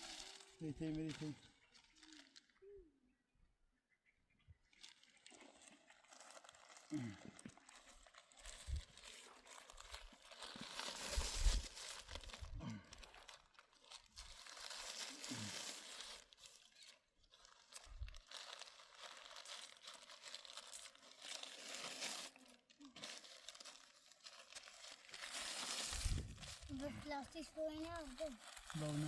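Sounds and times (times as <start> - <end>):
plastic crinkling and rustling: 0.0 - 2.7, 4.7 - 29.0.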